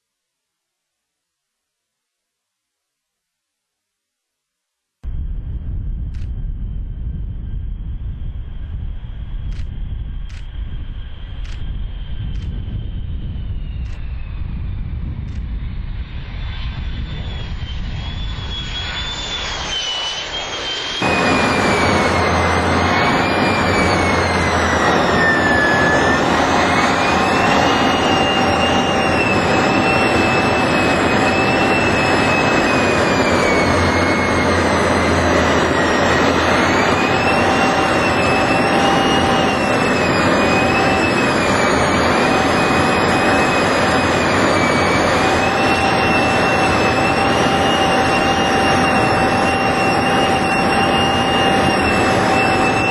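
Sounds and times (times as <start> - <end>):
jet engine whine and rush: 5.0 - 52.9.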